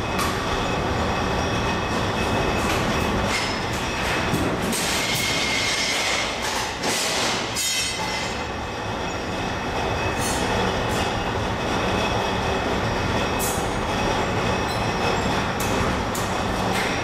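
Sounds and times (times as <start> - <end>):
industrial machinery noise: 0.0 - 17.0.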